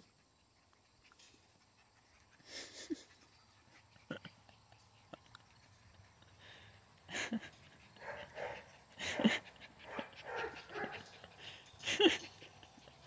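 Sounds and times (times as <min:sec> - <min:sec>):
puppies yipping and barking: 0:00.0 - 0:06.3, 0:07.3 - 0:13.0.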